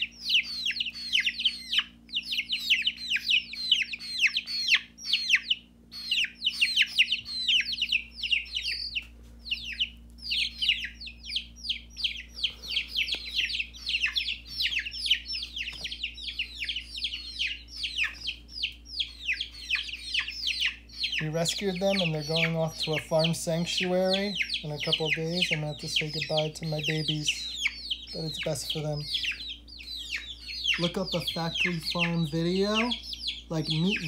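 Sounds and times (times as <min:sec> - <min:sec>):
baby chicks peeping: 0:00.0 - 0:34.0.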